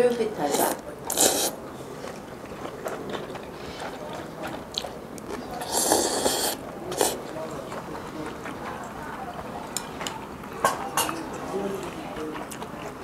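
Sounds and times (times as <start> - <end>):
close chewing of noodles: 0.4 - 10.6, 11.2 - 13.0.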